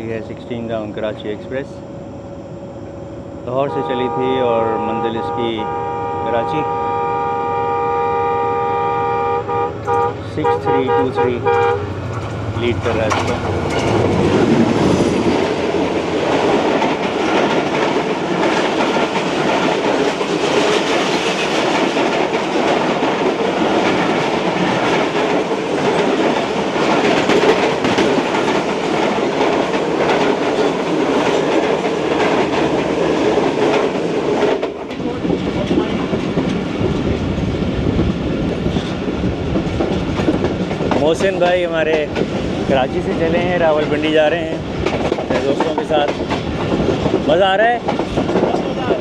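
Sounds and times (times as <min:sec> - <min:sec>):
passing train rolling noise: 0:00.0 - 0:49.0
wheels clacking over rail joints: 0:09.5 - 0:49.0.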